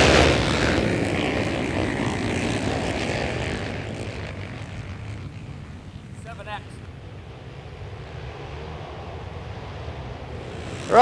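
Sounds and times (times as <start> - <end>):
racing quad engines droning: 0.0 - 11.0.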